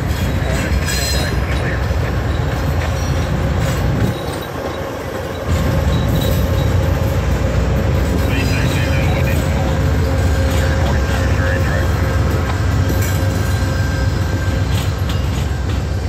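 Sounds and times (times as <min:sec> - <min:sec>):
train engines rumbling: 0:00.0 - 0:16.0
train wheels on rails: 0:00.0 - 0:16.0.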